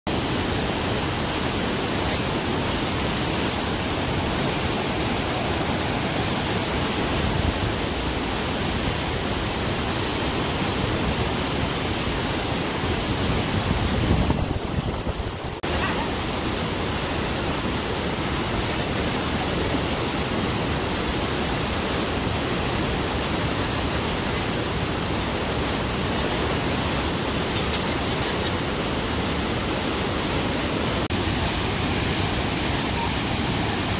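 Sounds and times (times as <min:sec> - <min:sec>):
river rapids rushing: 0:00.1 - 0:33.9.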